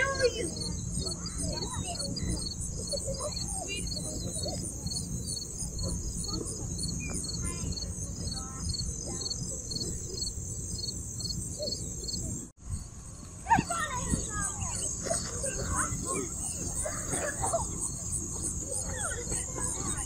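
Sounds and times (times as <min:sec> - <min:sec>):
insects chirping: 0:00.0 - 0:20.0
low background rumble: 0:00.0 - 0:20.0.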